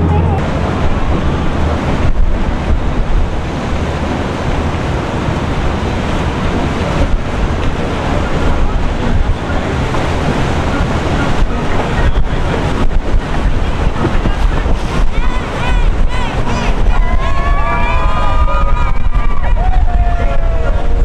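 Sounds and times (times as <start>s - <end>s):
water rushing and splashing: 0.0s - 21.0s
wind buffeting microphone: 0.0s - 21.0s.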